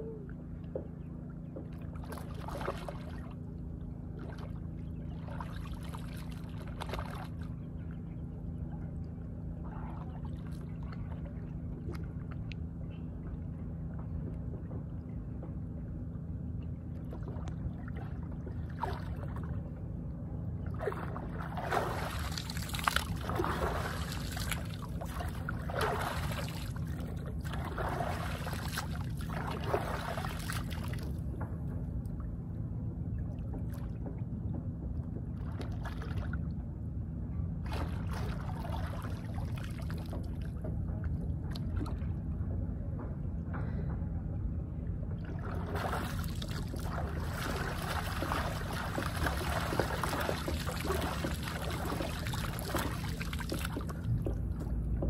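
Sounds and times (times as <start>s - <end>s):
steady low rumble: 0.0s - 55.0s
water splashing and sloshing: 0.4s - 55.0s.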